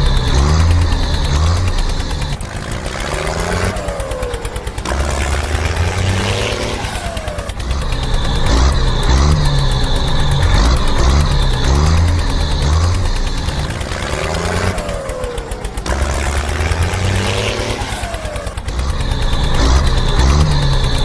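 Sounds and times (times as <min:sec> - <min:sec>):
short falling whines: 0:00.0 - 0:21.0
tractor engine running: 0:00.0 - 0:21.0.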